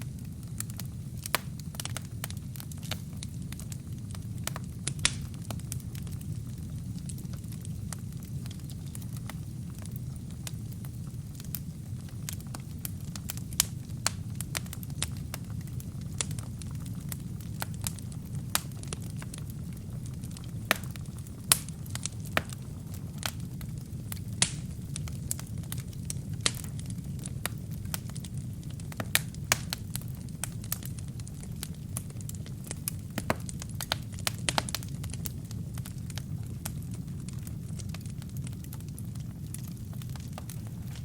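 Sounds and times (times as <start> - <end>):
low rumble of flames: 0.0 - 41.0
wood fire crackling: 0.0 - 41.0.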